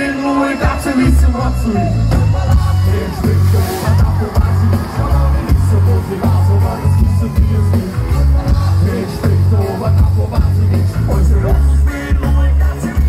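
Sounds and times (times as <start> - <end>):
live band music: 0.0 - 13.0
person singing: 0.0 - 13.0
heavy pulsing bass beat: 0.7 - 13.0.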